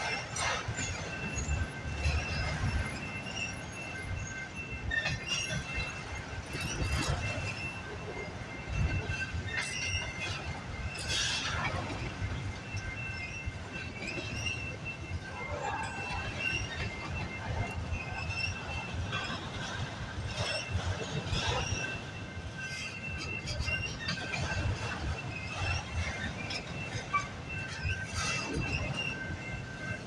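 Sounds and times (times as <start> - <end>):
high-pitched wheel squeal: 0.0 - 30.0
train cars clanking: 0.0 - 30.0
train wheels rumbling on rail: 0.0 - 30.0.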